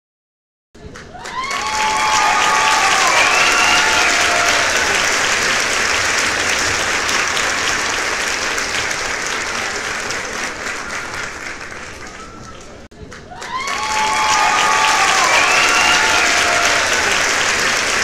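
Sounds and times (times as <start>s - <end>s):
crowd applause: 0.9s - 18.0s
crowd cheers: 1.0s - 18.0s.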